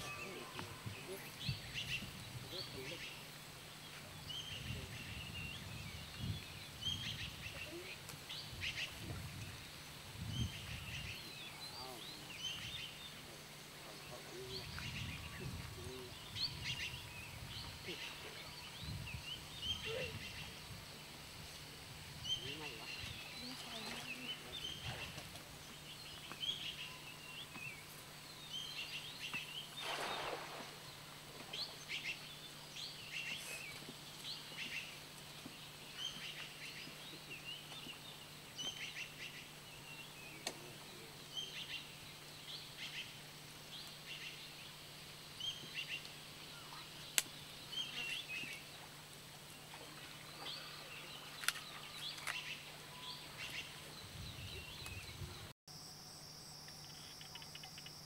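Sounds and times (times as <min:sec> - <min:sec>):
birds chirping: 0:00.0 - 0:55.5.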